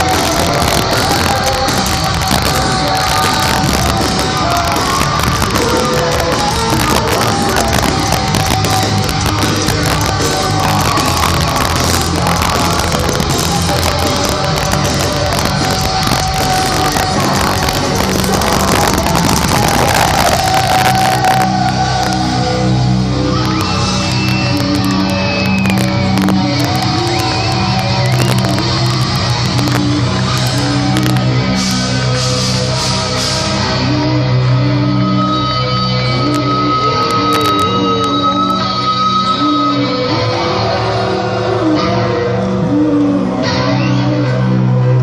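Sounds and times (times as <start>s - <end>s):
heavy metal band playing live: 0.0s - 45.0s
steady bass line: 0.0s - 45.0s.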